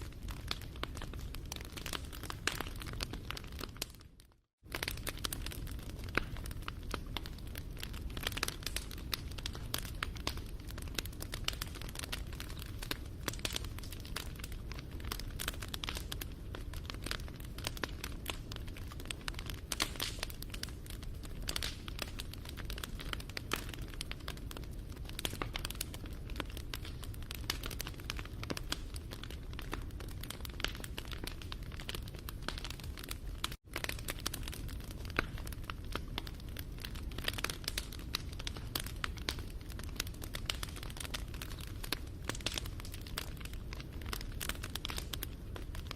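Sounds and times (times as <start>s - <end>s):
logs crackling and popping: 0.0s - 45.9s.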